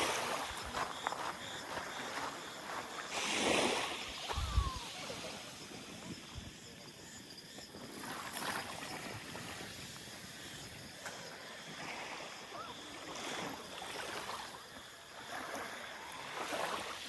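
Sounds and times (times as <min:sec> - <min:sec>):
small waves washing ashore: 0:00.0 - 0:17.0.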